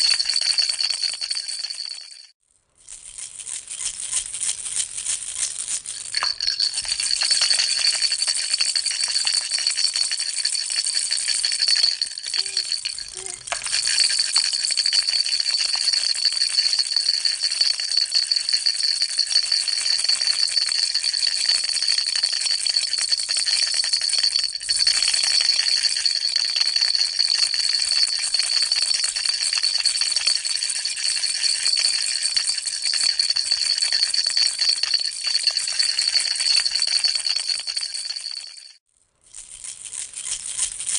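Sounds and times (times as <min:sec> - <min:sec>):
steady high ringing tone: 0:00.0 - 0:02.3, 0:06.2 - 0:38.8
baby rattle shaking: 0:00.0 - 0:40.9.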